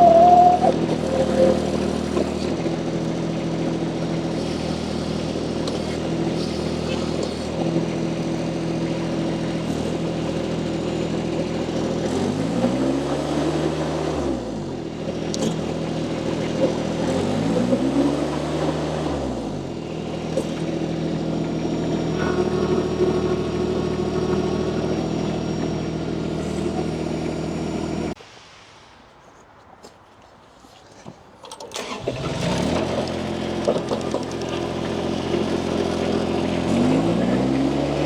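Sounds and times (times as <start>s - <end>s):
skid steer loader engine: 0.0s - 28.2s, 31.6s - 38.0s.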